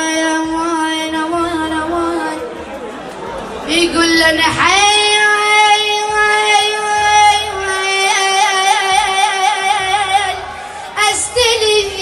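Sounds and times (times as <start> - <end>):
boy singing a long high note: 0.0 - 2.5, 3.7 - 12.0.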